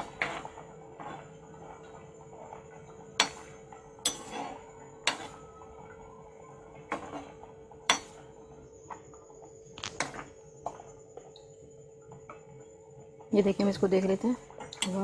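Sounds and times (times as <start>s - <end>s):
dough sizzling in oil: 0.0s - 15.0s.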